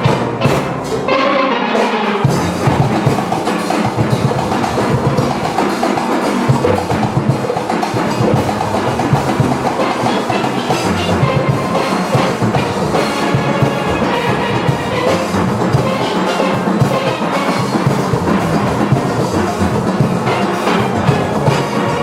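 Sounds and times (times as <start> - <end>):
steelband playing: 0.0 - 22.0.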